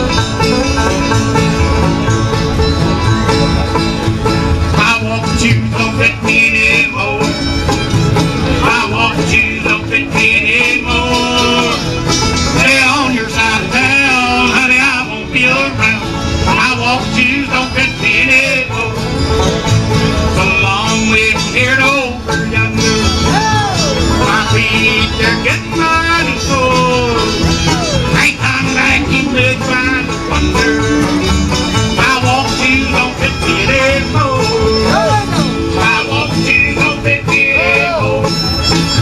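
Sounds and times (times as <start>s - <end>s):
bluegrass band playing: 0.0s - 39.0s.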